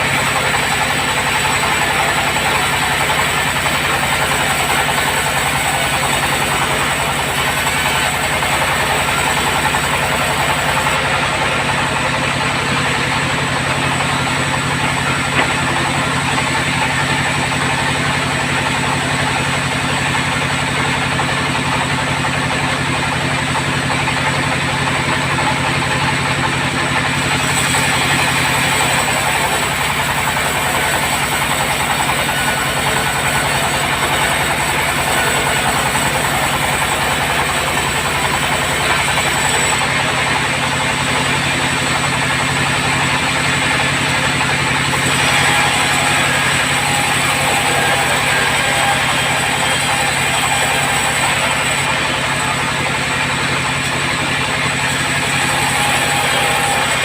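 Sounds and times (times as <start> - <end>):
bandsaw engine drone: 0.0 - 57.0.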